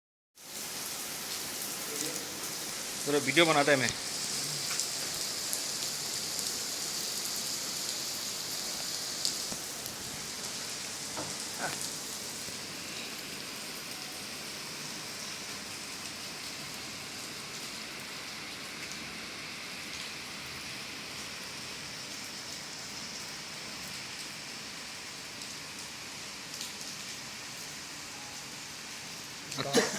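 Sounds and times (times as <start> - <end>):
steady rain hiss: 0.4 - 29.9.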